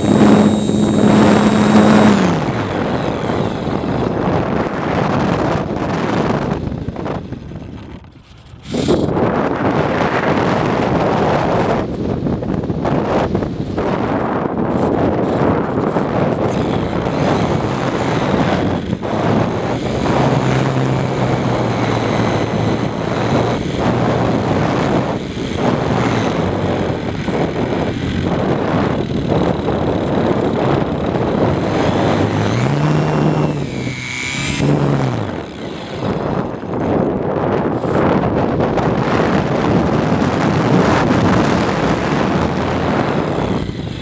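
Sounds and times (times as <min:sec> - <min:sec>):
propeller motor hum: 0:00.0 - 0:44.0
wind rushing over microphone: 0:00.0 - 0:44.0.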